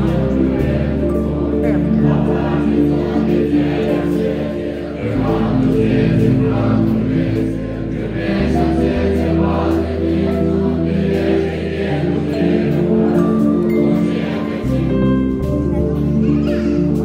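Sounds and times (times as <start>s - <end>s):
monks chanting in unison: 0.0s - 14.9s.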